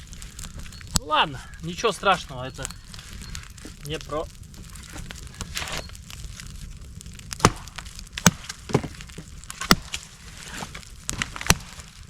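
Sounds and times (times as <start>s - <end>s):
firewood being split: 0.0s - 12.0s.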